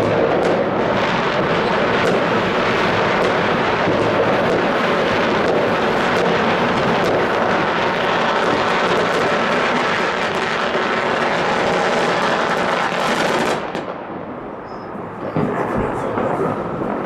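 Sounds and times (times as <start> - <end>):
distant fireworks and firecrackers: 0.0 - 17.0.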